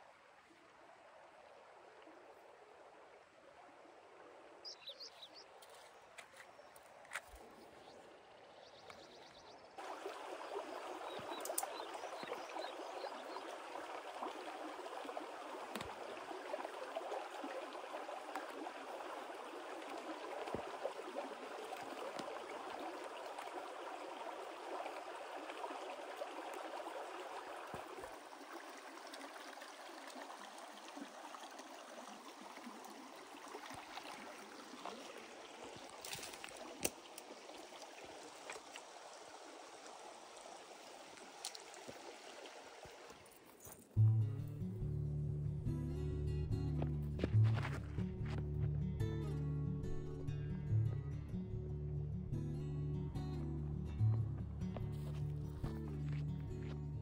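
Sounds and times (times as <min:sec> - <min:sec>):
creek babbling over stones: 0:00.0 - 0:44.1, 0:46.7 - 0:48.7, 0:53.3 - 0:57.0.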